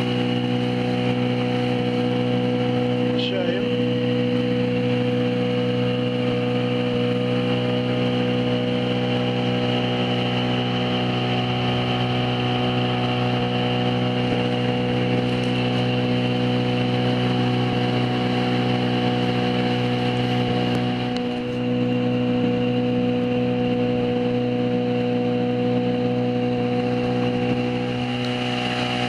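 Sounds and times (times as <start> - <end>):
motor boat engine droning: 0.0 - 29.0.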